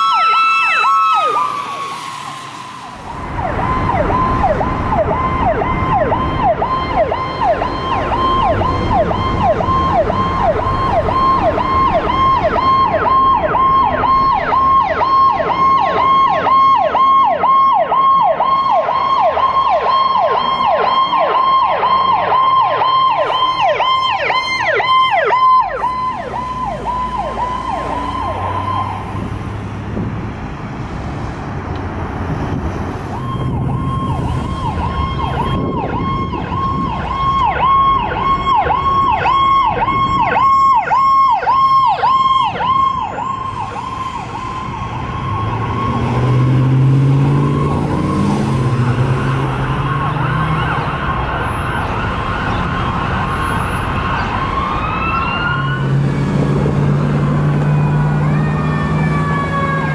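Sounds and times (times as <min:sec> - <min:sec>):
siren yelping: 0:00.0 - 0:29.4, 0:32.9 - 0:59.9
steady siren tone: 0:00.0 - 0:29.4, 0:32.6 - 0:59.9
diesel truck engine: 0:00.0 - 0:59.9
traffic rumble: 0:00.0 - 0:59.9.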